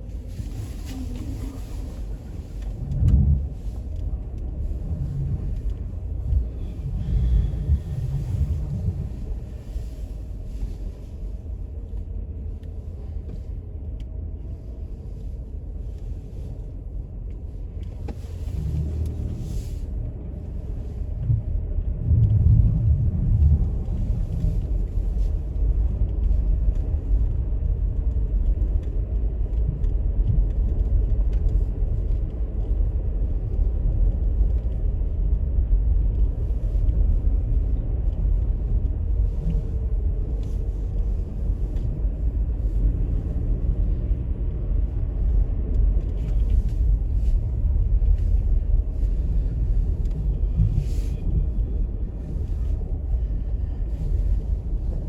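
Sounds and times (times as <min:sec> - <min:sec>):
car rumbling on road: 0:00.0 - 0:55.0.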